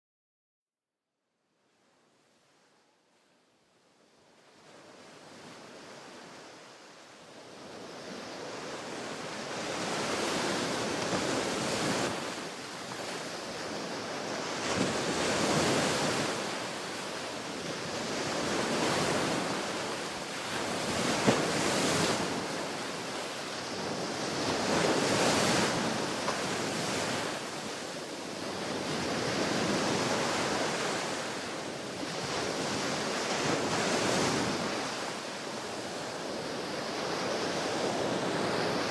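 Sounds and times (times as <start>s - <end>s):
ocean waves breaking on beach: 4.1s - 38.9s.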